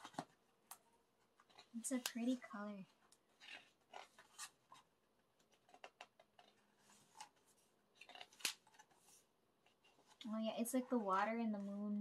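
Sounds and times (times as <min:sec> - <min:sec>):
paper rustling and ticking: 0:00.0 - 0:11.2.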